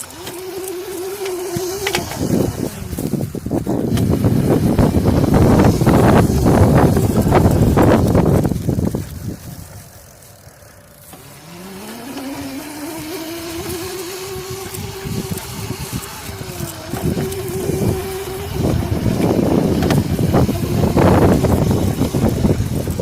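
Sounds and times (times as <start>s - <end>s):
rumbling noise with bumps: 0.0s - 11.2s, 13.0s - 23.0s
electric motor whining: 0.0s - 23.0s.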